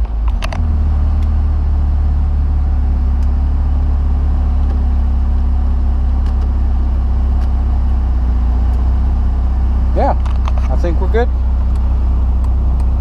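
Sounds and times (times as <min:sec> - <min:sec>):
rotary engine idling: 0:02.4 - 0:13.0.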